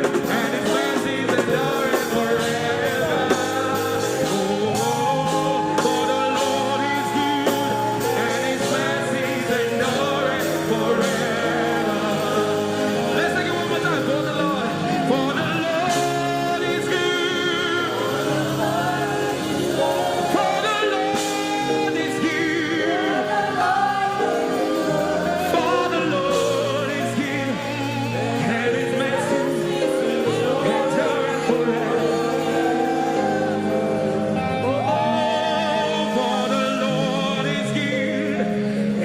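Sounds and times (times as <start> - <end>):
voices singing with vibrato: 0.0 - 39.0.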